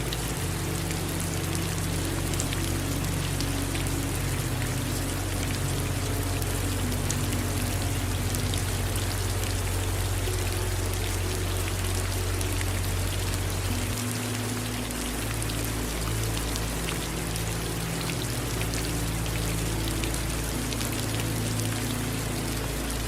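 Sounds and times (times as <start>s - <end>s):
constant low rumble: 0.0s - 23.0s
steady rain falling: 0.0s - 23.0s.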